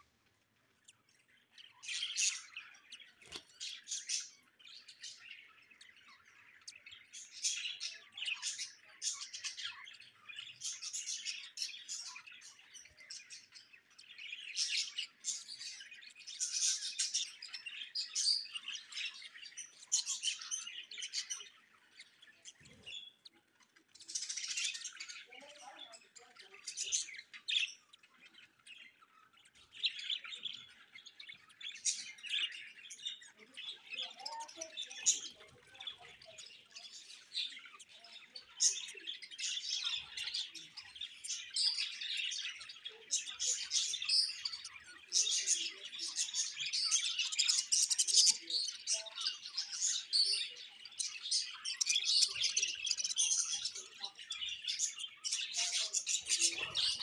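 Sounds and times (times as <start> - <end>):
budgerigars chirping: 0.0 - 57.0.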